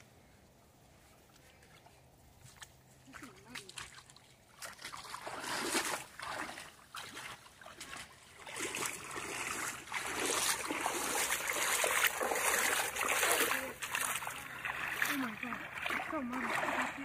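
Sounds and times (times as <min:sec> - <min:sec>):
feet splashing through shallow water: 0:00.9 - 0:17.0.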